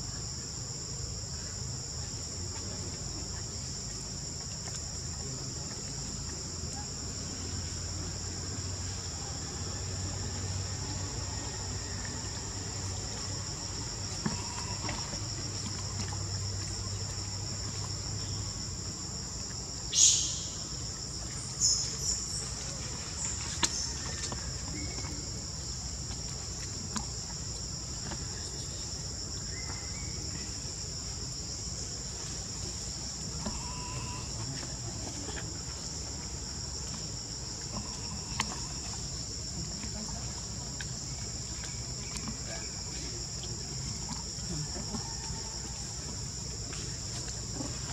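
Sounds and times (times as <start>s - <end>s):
insect chorus buzzing: 0.0s - 47.9s.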